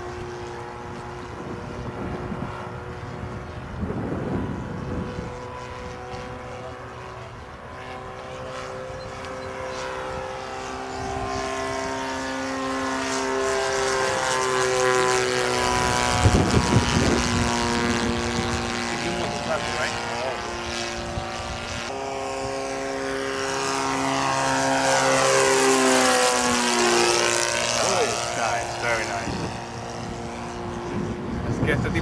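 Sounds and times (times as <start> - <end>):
model plane engine droning: 0.0 - 32.0.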